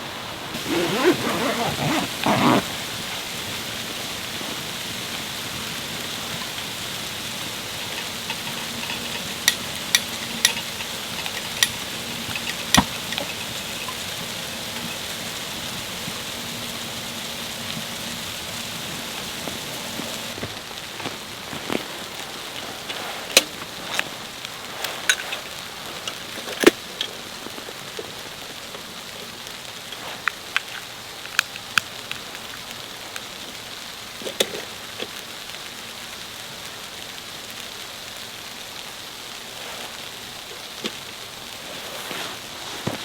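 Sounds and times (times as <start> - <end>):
hiss of falling snow: 0.0 - 43.0.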